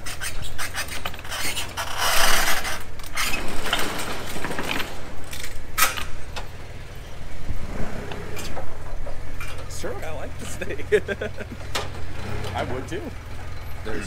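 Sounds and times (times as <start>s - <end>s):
forklift engine running: 0.0s - 14.0s
rattles: 0.0s - 14.0s.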